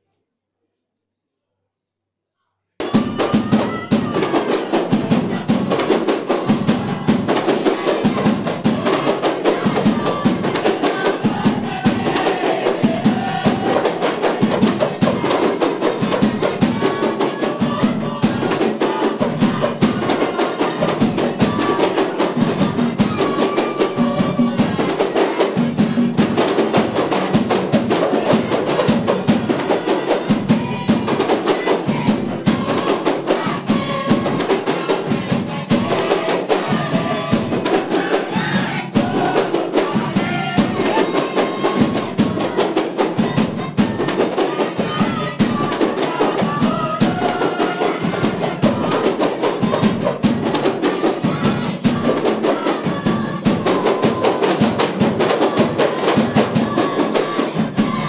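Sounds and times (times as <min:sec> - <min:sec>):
big drum: 0:02.8 - 0:58.0
frame drums in fast rhythm: 0:02.8 - 0:58.0
group of voices singing: 0:02.8 - 0:58.0.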